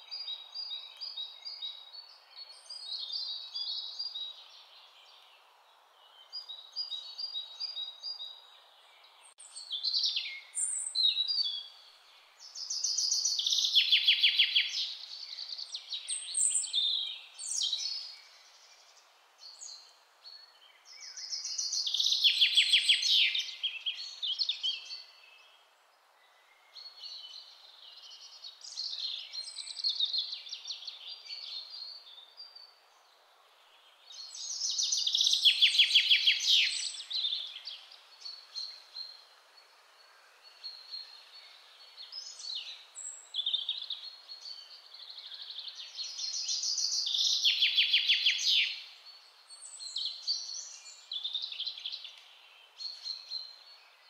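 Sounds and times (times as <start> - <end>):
faint outdoor hiss: 0.0 - 54.0
songbirds chirping and trilling: 0.0 - 54.0.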